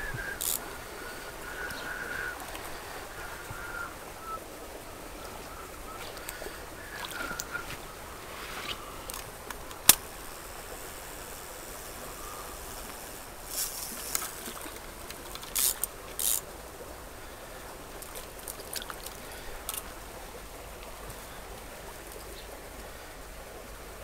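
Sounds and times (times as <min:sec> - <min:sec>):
stream flowing: 0:00.0 - 0:24.0
wading through water and brush: 0:00.0 - 0:24.0.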